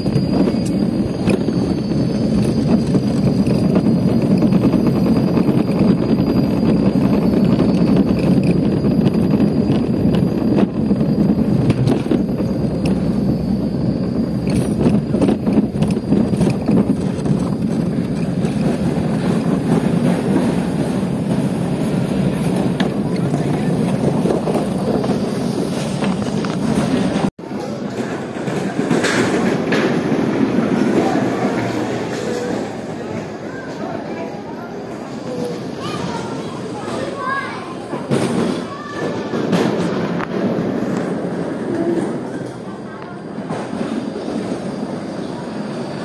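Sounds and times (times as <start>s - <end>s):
cart wheels rumbling on track: 0.0s - 46.0s.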